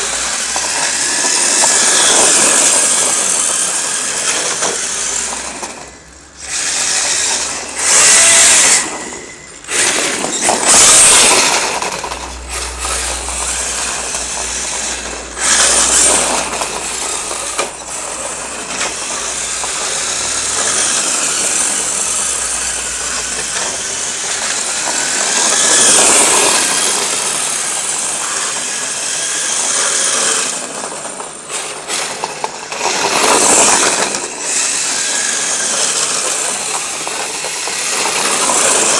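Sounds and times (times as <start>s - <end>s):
electric motor whining and surging: 0.0s - 38.9s.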